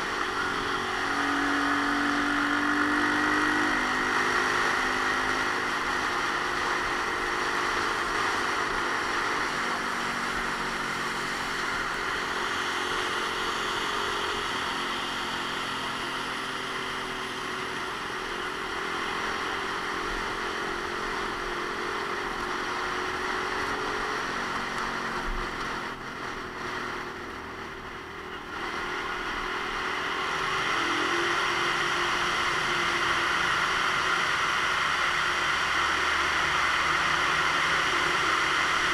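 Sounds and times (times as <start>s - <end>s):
motorcycle engine running: 0.0s - 38.9s
wind and tyres on wet road: 0.0s - 38.9s.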